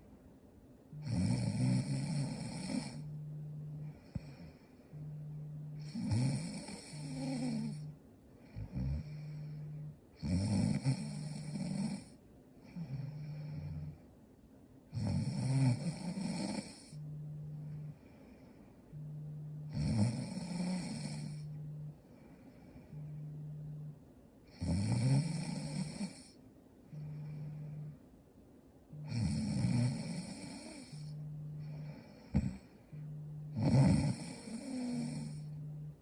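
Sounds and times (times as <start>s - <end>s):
woman snoring: 0.9s - 14.0s, 14.9s - 23.4s, 24.4s - 27.9s, 28.9s - 35.8s
low breathing sounds: 1.8s - 14.3s, 15.8s - 24.6s, 25.5s - 36.0s.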